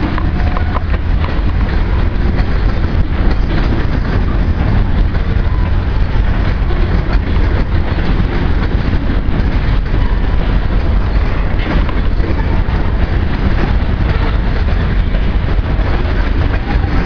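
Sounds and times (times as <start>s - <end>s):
freight train wheels rumbling: 0.0s - 17.0s
wheels and couplers clicking: 0.0s - 17.0s.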